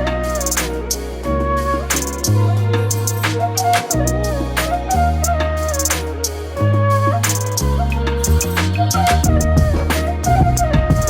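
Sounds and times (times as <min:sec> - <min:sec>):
background music with drums and bass: 0:00.0 - 0:11.0.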